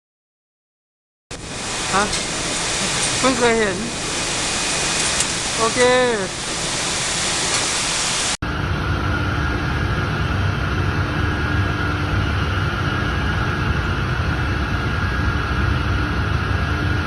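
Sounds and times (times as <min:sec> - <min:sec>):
machinery rumble: 0:01.3 - 0:17.0.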